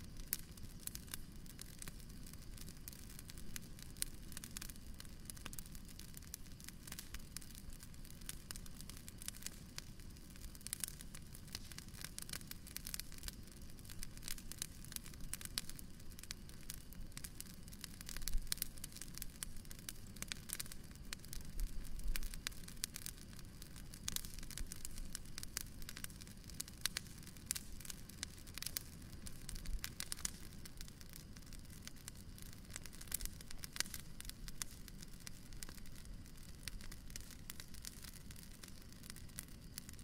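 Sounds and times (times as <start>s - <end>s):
bonfire crackling and popping: 0.0s - 40.0s
low steady fire rumble: 0.0s - 40.0s.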